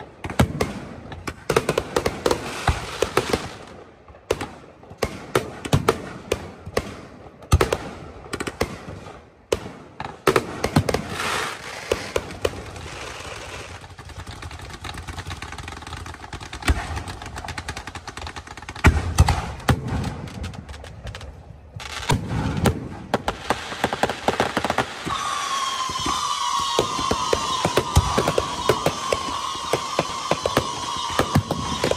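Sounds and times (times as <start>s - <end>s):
fireworks bangs and crackling: 0.0s - 31.9s
whistling fireworks: 0.0s - 31.9s.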